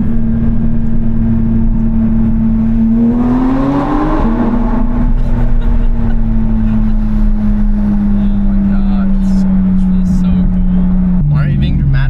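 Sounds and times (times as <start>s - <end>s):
sports car engine droning: 0.0s - 12.0s.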